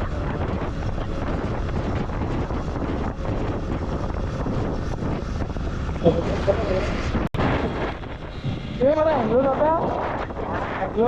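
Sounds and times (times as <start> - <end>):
motorcycle running: 0.0 - 11.0
road noise: 0.0 - 11.0
wind buffeting microphone: 0.0 - 11.0.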